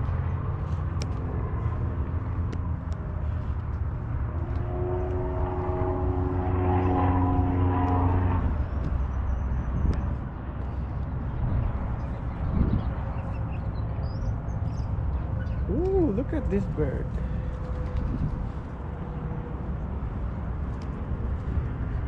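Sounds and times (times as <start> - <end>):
passing engine drone: 0.0 - 22.0
steady low rumble: 0.0 - 22.0.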